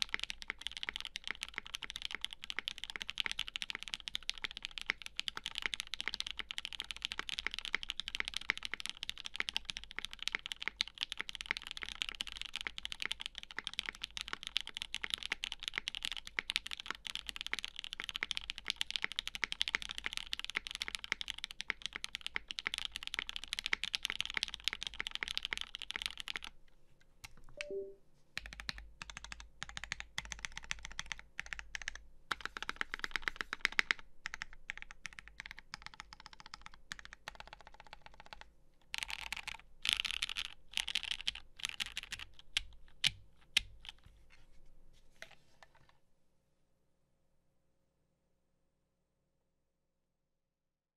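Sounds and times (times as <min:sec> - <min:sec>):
fast typing on mechanical keyboard: 0:00.0 - 0:26.6, 0:28.4 - 0:44.0.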